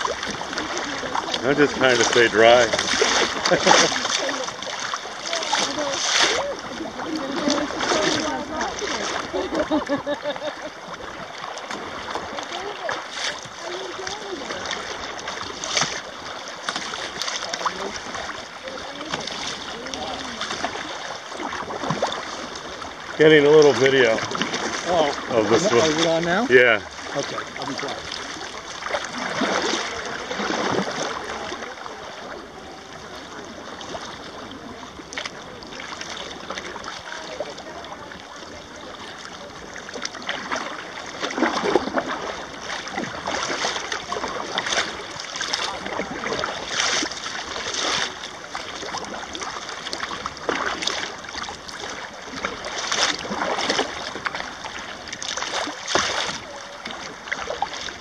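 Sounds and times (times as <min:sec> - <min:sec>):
water splashing against kayak hull: 0:00.0 - 0:58.0.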